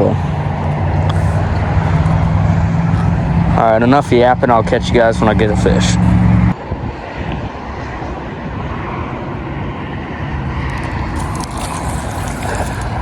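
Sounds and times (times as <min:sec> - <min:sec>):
wind buffeting microphone: 0:00.3 - 0:13.0.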